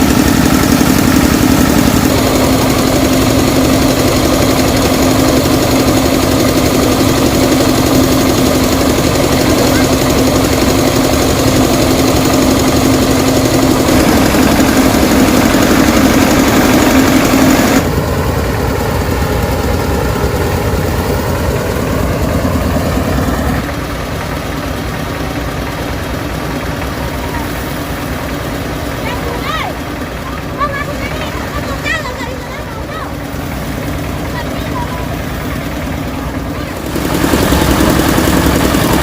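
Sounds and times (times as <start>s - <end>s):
engine running with low hum: 0.0s - 39.0s.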